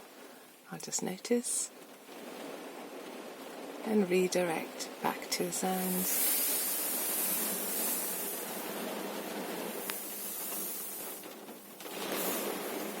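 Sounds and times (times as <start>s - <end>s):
rain on a car: 0.0s - 13.0s.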